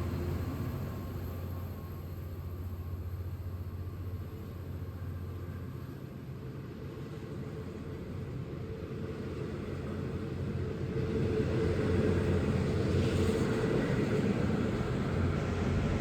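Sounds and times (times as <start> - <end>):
low rumble of a train: 0.0 - 16.0.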